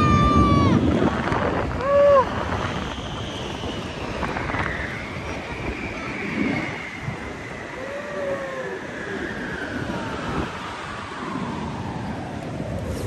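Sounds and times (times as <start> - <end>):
raft sliding over snow: 0.0 - 13.0
wind on microphone: 0.0 - 13.0.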